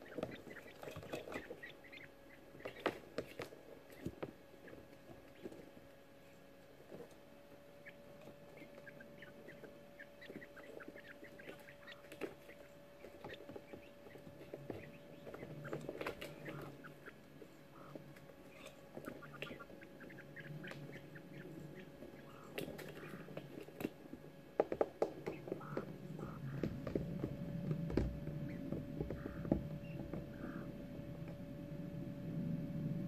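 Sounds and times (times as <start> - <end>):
chicks scratching in wood shavings: 0.0 - 31.5
chicks chirping: 0.0 - 31.8
faint hum: 0.0 - 33.0.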